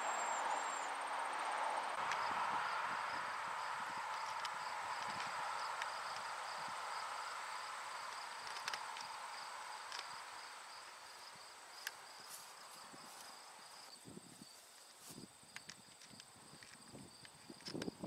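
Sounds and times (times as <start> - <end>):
insect whine: 0.0 - 18.0
insects chirping: 0.0 - 18.0.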